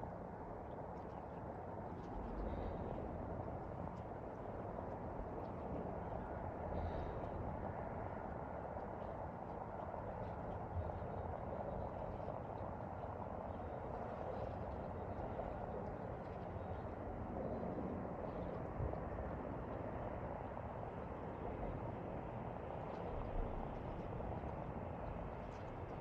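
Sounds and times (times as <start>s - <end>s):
distant boat engine drone: 0.0s - 26.0s.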